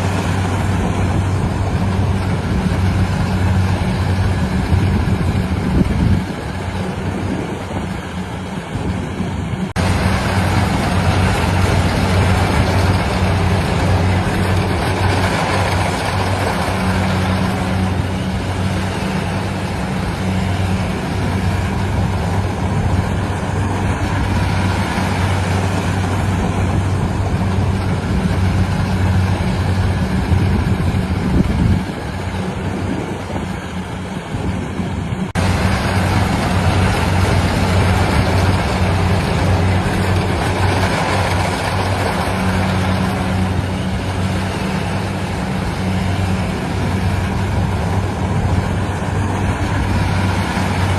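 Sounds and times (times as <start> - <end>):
harvesting machine engine humming: 0.0 - 50.9.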